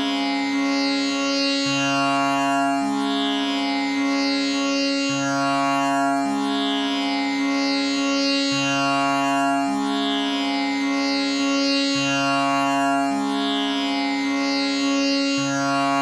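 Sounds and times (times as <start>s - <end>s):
tanpura drone: 0.0s - 16.0s.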